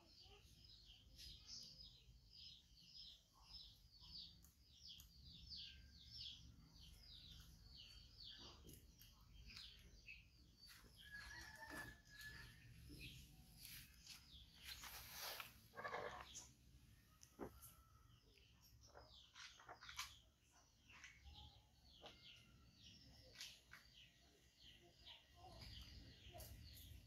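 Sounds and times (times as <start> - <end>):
small bird chirping rapidly: 0.2 - 27.0.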